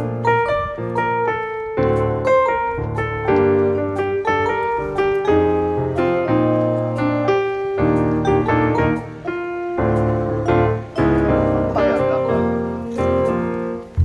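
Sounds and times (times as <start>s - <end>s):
background music with bass line: 0.0s - 14.0s.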